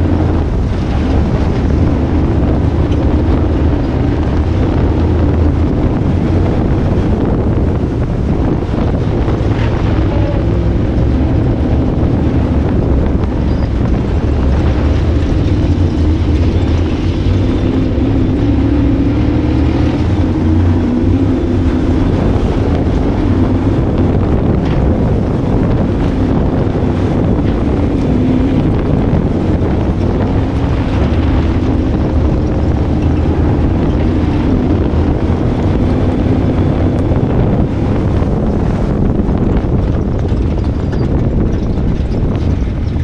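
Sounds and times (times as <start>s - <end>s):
car engine running hard: 0.0s - 43.0s
tyre and dirt noise: 0.0s - 43.0s.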